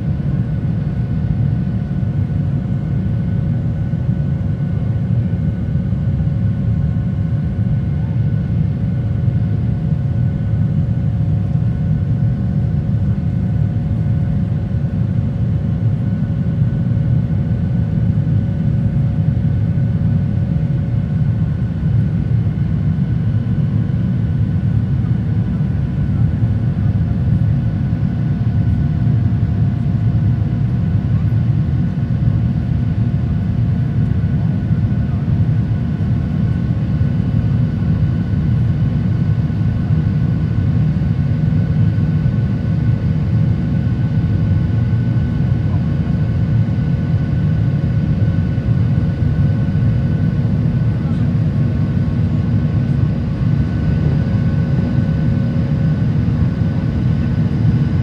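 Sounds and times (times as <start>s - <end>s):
deep engine rumble in cabin: 0.0s - 58.0s
faint steady whines: 0.0s - 58.0s.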